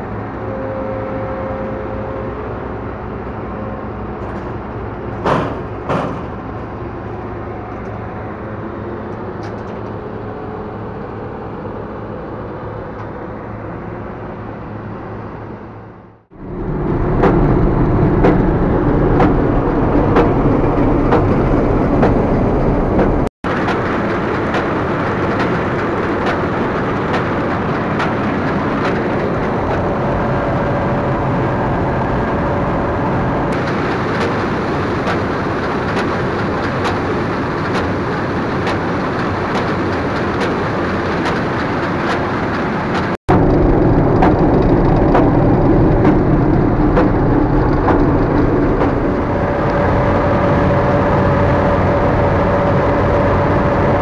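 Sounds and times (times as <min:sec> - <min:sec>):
combine harvester machinery din: 0:00.0 - 0:54.0.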